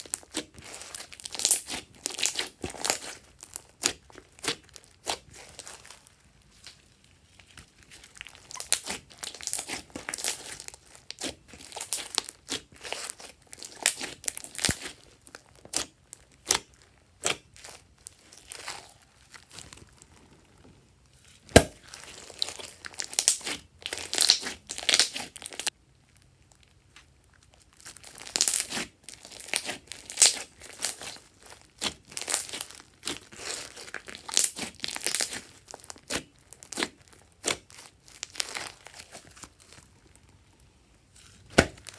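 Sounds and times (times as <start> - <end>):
slime squishing: 0.0 - 41.9.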